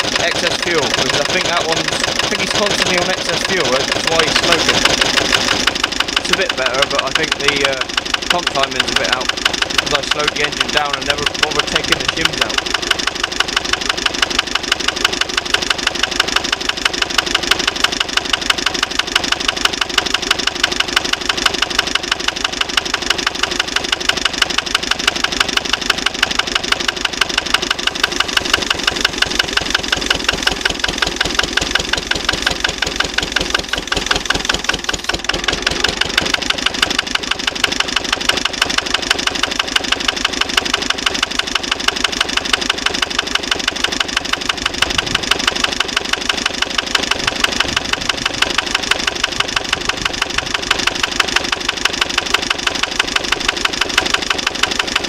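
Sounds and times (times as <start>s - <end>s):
diesel engine running slowly: 0.0s - 55.0s.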